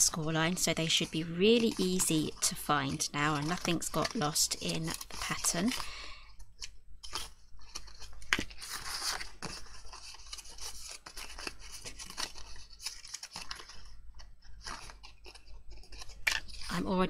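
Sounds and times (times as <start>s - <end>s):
cardstock crackling and rubbing: 0.0s - 17.0s
sharp paper clicks: 0.0s - 17.0s.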